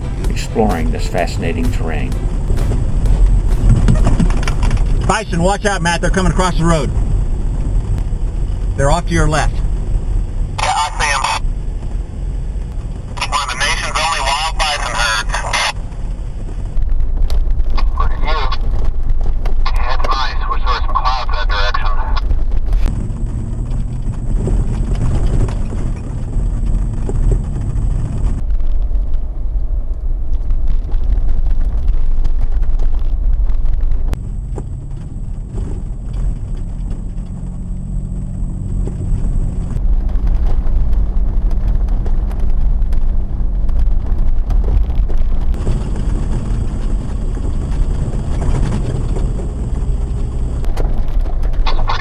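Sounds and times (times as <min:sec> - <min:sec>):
vehicle engine and road rumble: 0:00.0 - 0:13.8, 0:22.2 - 0:52.0.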